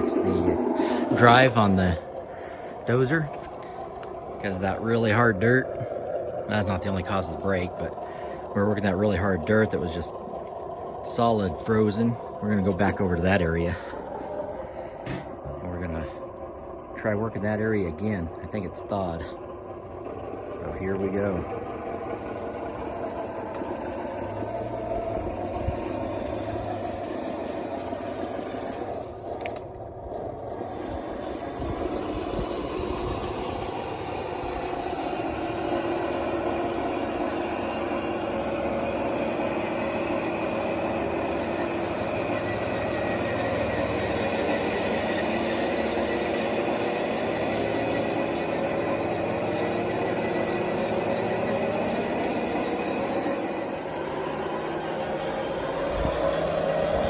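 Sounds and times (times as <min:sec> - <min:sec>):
toy bulldozer motors whining: 0:00.0 - 0:15.3, 0:15.9 - 0:57.0.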